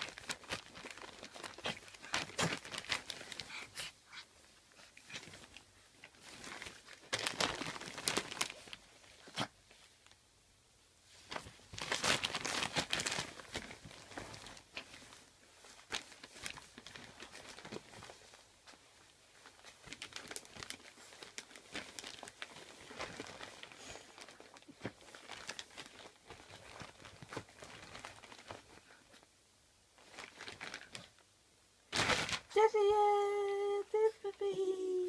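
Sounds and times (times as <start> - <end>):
wrapping paper crinkling: 0.0 - 3.8, 5.0 - 10.2, 11.2 - 29.3, 29.9 - 31.2, 31.9 - 33.6.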